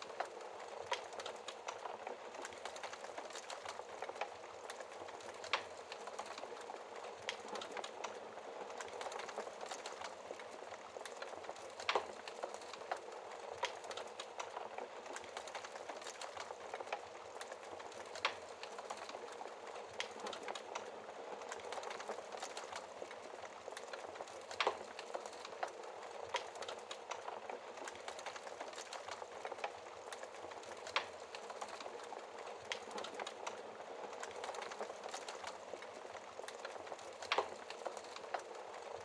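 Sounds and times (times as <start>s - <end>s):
small fire crackles: 0.0s - 39.0s.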